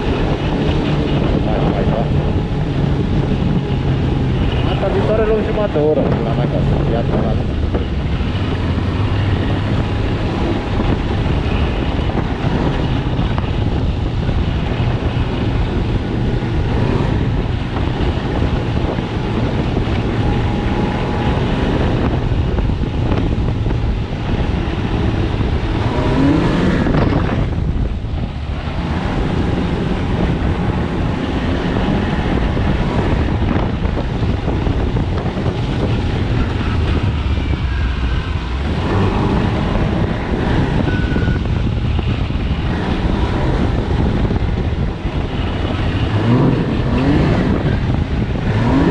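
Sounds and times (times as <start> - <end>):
snowmobile engine running: 0.0 - 48.9.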